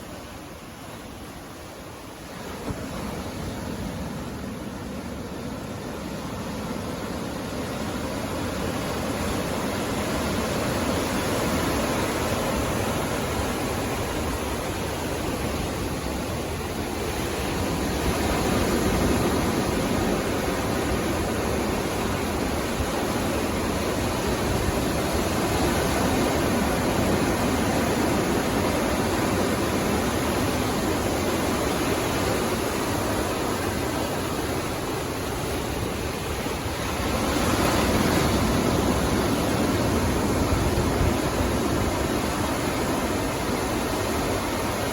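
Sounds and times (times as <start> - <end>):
sea waves breaking on beach: 0.0 - 44.9.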